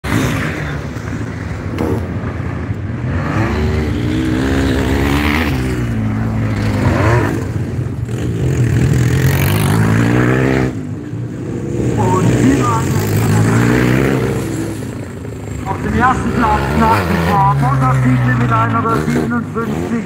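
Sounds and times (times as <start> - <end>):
motorcycle engines revving hard: 0.0 - 20.0.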